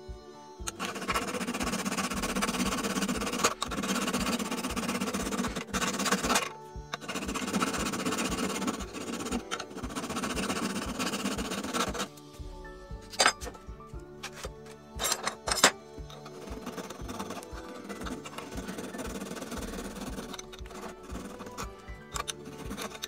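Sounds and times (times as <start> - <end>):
background music with beat: 0.0 - 23.0
file rasping on steel: 0.7 - 12.2, 15.0 - 23.0.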